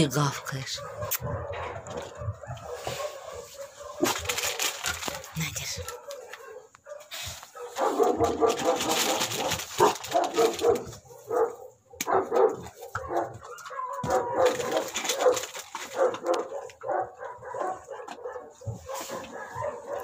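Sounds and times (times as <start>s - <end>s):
dogs barking: 0.4s - 20.0s.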